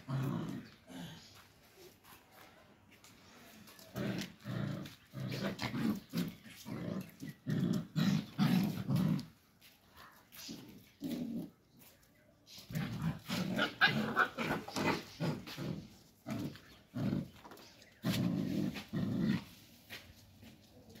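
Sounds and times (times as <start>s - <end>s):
dogs growling in play: 0.0s - 2.0s, 3.0s - 9.8s, 10.4s - 11.9s, 12.6s - 20.5s.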